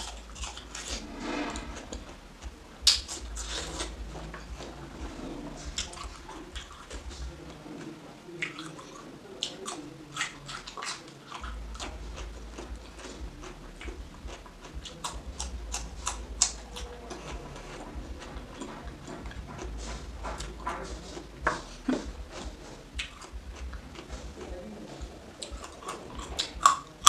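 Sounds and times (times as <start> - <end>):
chewing mouth sounds: 0.0 - 0.9, 2.8 - 27.0.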